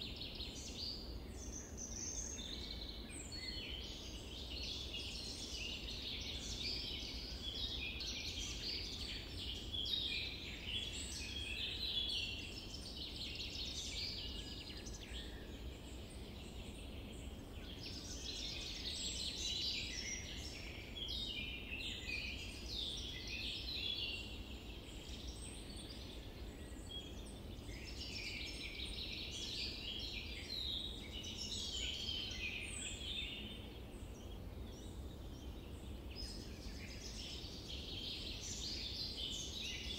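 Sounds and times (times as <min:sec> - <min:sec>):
low steady background noise: 0:00.0 - 0:39.9
songbirds singing and chirping: 0:00.0 - 0:39.9.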